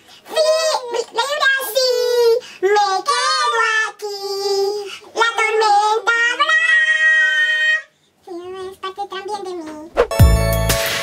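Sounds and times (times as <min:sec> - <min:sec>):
girl and woman singing: 0:00.3 - 0:09.9.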